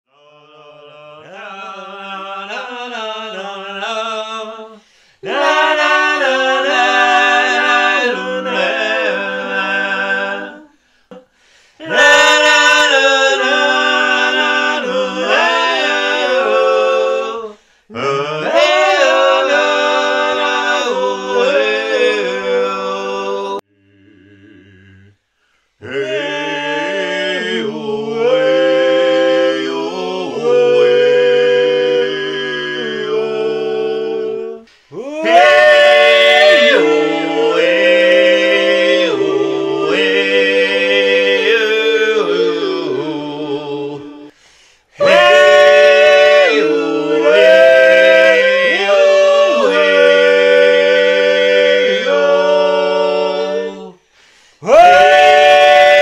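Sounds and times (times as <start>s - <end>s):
people singing a cappella: 0.1s - 56.0s.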